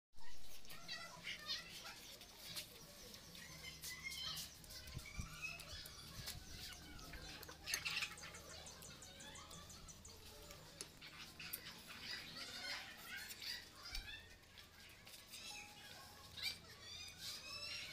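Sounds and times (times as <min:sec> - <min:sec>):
faint bird chirping: 0:00.2 - 0:17.9.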